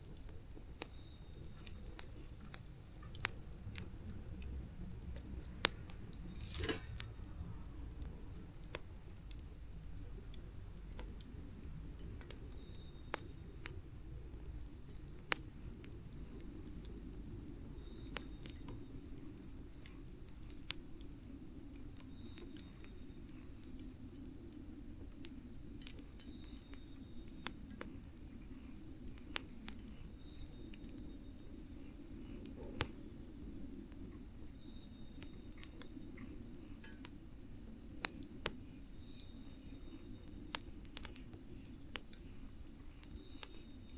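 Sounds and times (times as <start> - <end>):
campfire flame rush: 0.0 - 43.9
fire crackling and popping: 0.0 - 43.9.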